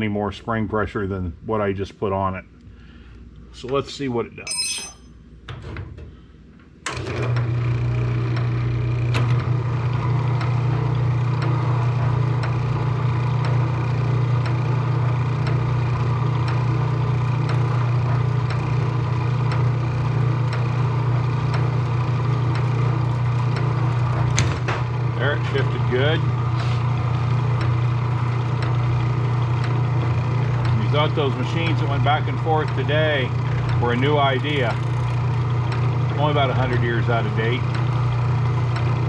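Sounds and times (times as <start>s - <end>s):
washing machine motor hum: 7.0s - 39.0s.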